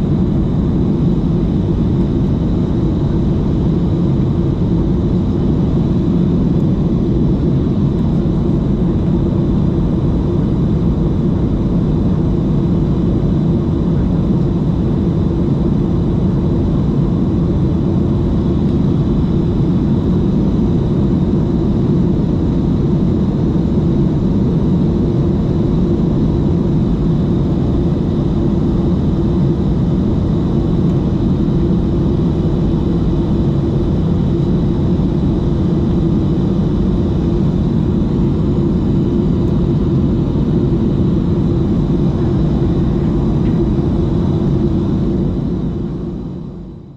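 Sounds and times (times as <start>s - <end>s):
aircraft engines roaring: 0.0s - 46.9s.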